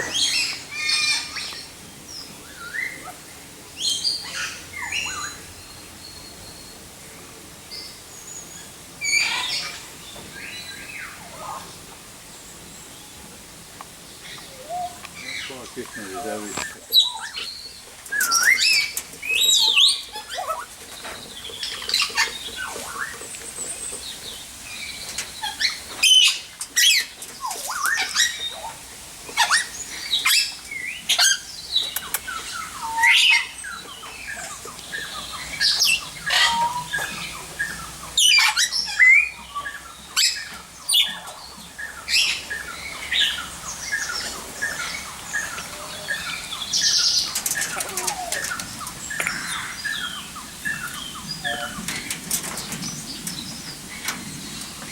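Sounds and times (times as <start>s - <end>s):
aviary birds chirping and squawking: 0.0s - 54.9s.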